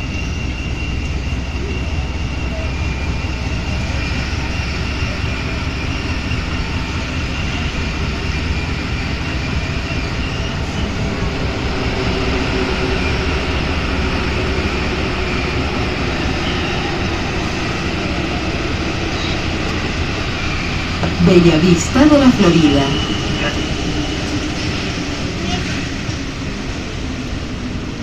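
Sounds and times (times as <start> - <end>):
metro train rumbling: 0.0 - 28.0.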